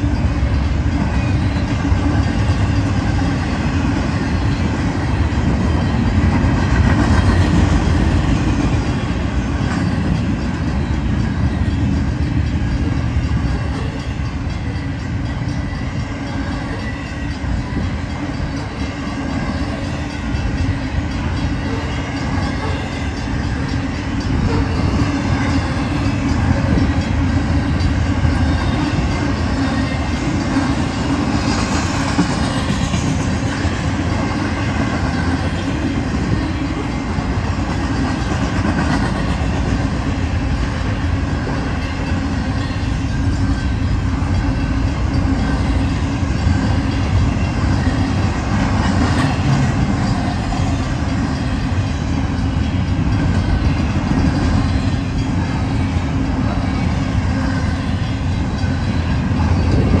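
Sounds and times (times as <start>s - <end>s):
freight train wheels rumbling on rails: 0.0s - 60.0s.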